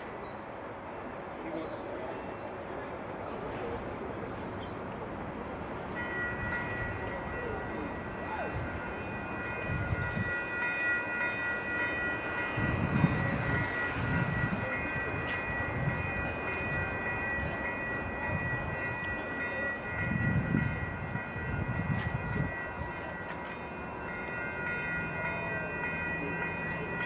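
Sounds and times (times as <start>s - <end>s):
crossing warning bells ringing: 0.0s - 27.0s
low train rumbling: 0.0s - 27.0s.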